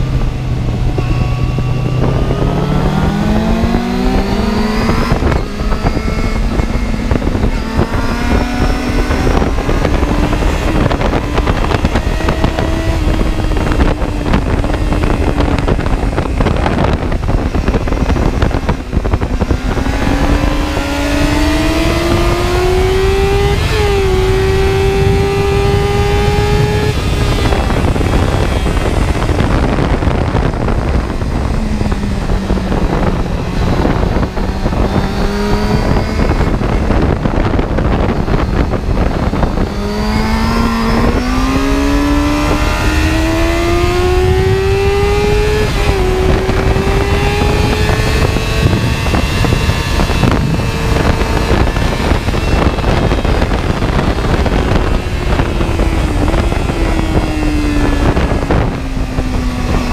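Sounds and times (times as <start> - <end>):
car engine accelerating: 0.0 - 59.9
wind and road noise rumble: 0.0 - 59.9.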